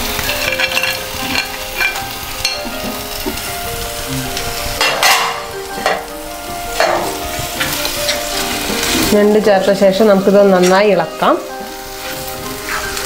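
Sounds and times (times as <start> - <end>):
spices sizzling in a pan: 0.0 - 13.0.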